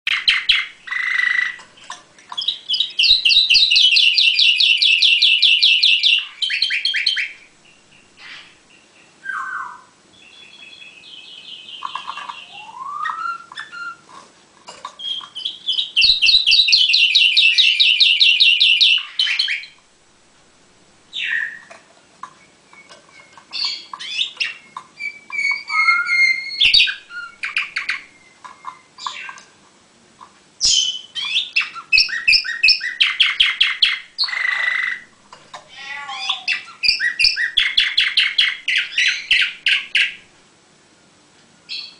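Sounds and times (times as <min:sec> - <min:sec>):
canary trilling: 0:00.1 - 0:14.1, 0:15.0 - 0:19.8, 0:21.1 - 0:21.8, 0:22.4 - 0:29.5, 0:30.6 - 0:40.3.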